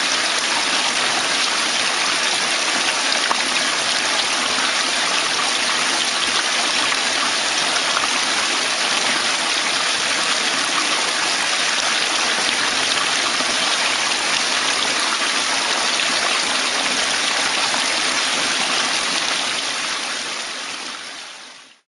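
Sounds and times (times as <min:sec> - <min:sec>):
splashing pond water: 0:00.0 - 0:20.8.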